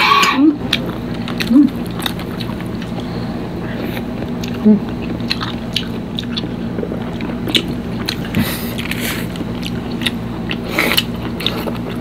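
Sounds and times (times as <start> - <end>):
steady low hum: 0.0 - 12.0
chewing and lip smacking: 0.7 - 3.1, 3.7 - 12.0.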